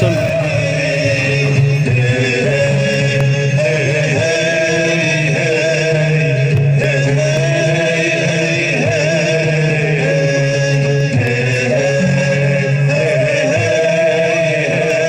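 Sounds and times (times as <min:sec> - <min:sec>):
person chanting: 0:00.0 - 0:15.0
steady low drone: 0:00.0 - 0:15.0.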